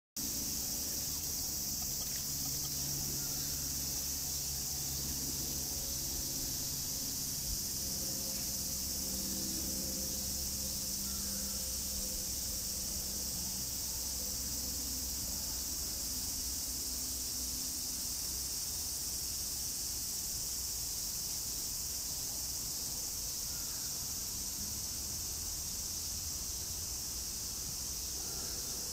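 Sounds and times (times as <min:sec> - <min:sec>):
high-pitched insect chorus: 0:00.2 - 0:28.9.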